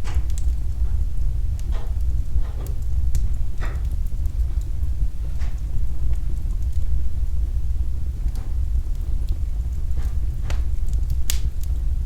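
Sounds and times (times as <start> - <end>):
fire crackling and popping: 0.0 - 12.0
wood fire burning: 0.0 - 12.0.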